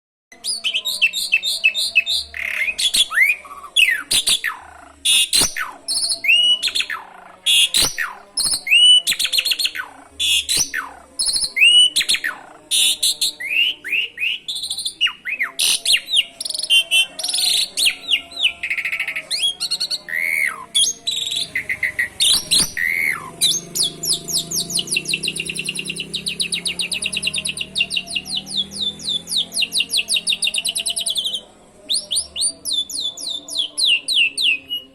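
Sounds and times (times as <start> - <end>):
starling singing varied song: 0.3 - 34.9.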